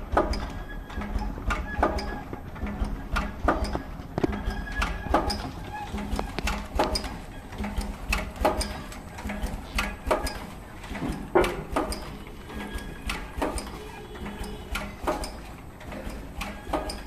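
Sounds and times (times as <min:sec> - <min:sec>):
packing machine clacking: 0:00.0 - 0:17.0.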